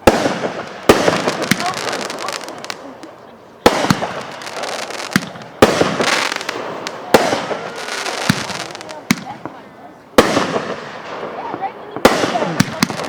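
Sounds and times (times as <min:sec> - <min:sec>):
fireworks banging: 0:00.0 - 0:13.0
fireworks crackling and hissing: 0:00.0 - 0:13.0.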